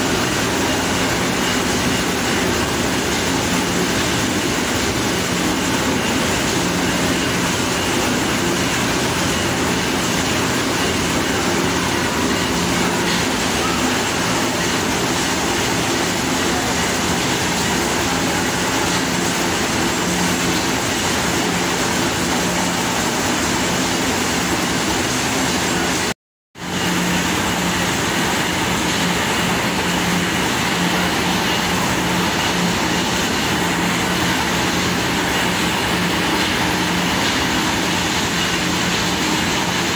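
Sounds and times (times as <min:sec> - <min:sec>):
mill machinery drone: 0:00.0 - 0:39.9.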